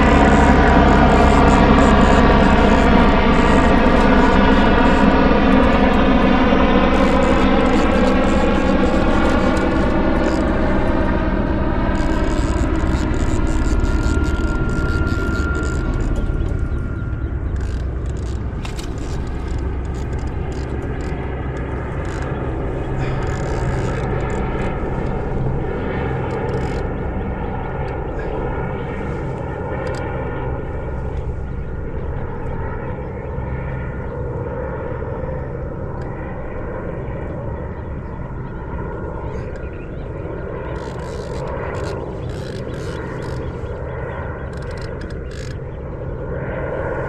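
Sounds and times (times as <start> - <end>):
held tones drifting in pitch: 0.0 - 33.4, 37.2 - 47.0
motor drone: 0.0 - 47.0.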